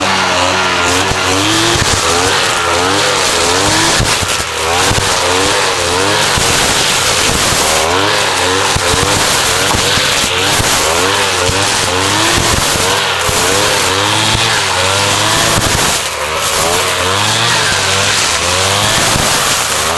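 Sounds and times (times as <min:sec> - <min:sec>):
brush cutter engine revving: 0:00.0 - 0:19.9.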